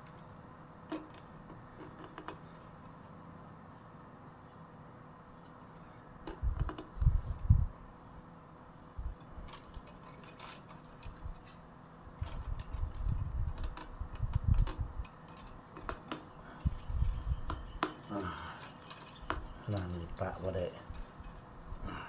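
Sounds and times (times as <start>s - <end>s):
bamboo strips clicking and rustling: 0.0s - 3.2s, 5.4s - 7.5s, 9.2s - 22.0s.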